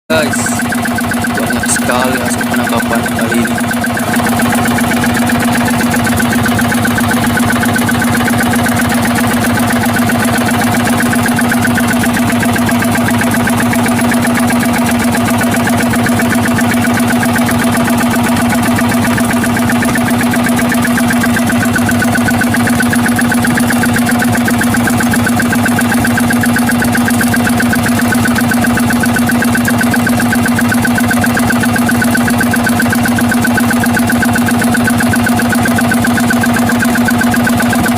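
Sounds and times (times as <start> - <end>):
boat engine humming: 0.1 - 37.9.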